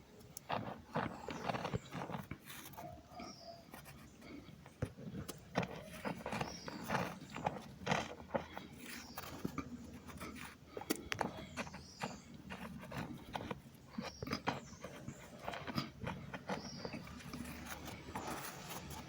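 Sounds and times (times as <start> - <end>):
cornstarch crunching: 0.1 - 19.0.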